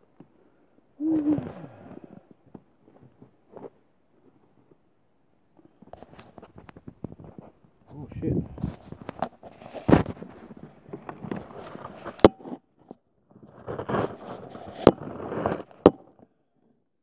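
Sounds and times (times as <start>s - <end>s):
rustling and handling noise: 0.0s - 16.8s.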